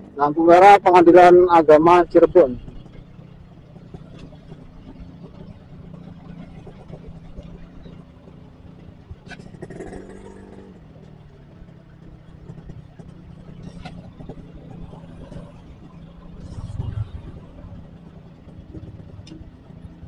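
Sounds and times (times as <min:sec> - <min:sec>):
another engine: 0:00.0 - 0:20.0
motorcycle engine running: 0:00.0 - 0:20.0
street traffic: 0:00.0 - 0:20.0.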